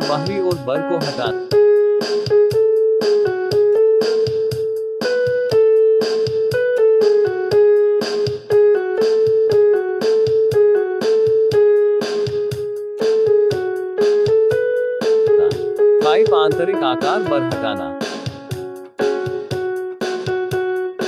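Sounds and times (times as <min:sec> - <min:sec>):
keyboard tune: 0:00.0 - 0:21.0.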